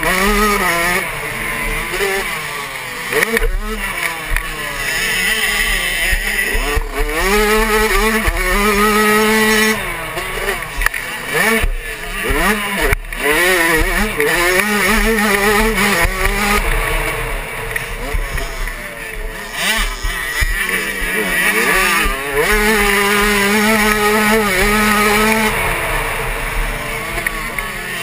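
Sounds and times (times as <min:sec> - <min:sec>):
motocross bike engine revving: 0:00.0 - 0:28.0.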